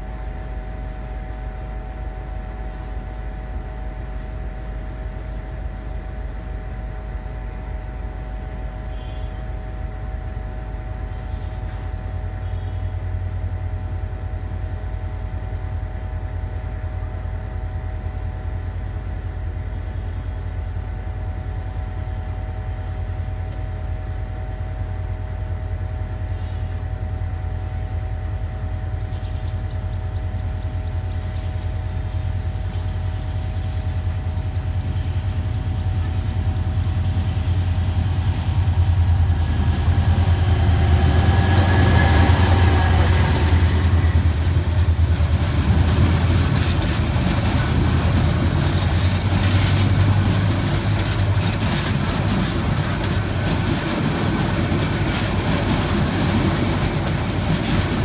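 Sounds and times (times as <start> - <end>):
diesel locomotive engine drone: 0.0 - 58.0
train coaches rolling on rails: 0.0 - 58.0.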